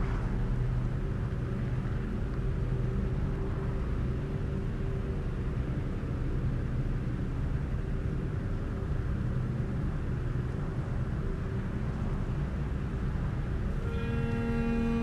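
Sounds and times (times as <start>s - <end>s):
car engine and road rumble: 0.0s - 15.0s
faint even hum: 0.0s - 15.0s.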